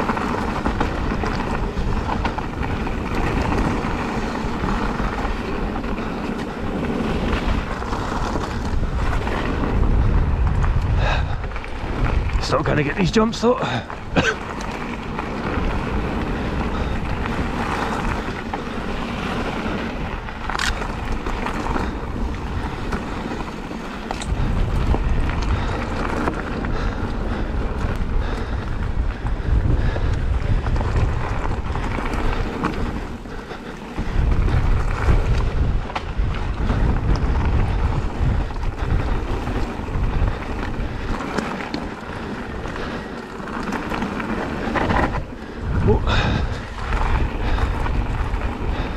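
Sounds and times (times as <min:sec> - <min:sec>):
bike tyres rumbling over dirt: 0:00.0 - 0:48.9
wind buffeting microphone: 0:00.0 - 0:48.9.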